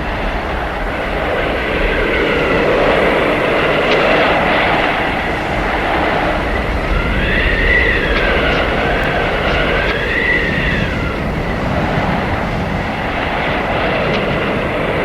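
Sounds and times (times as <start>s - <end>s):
blizzard wind howling: 0.0s - 15.0s.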